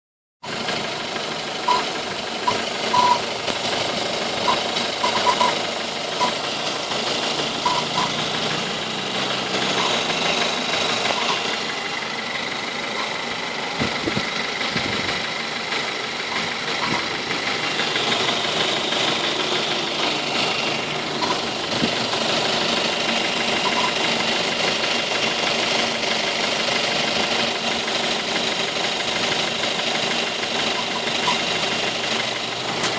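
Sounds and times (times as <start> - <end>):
car engine running: 0.4 - 32.9
compressor belt chirps: 0.4 - 32.9.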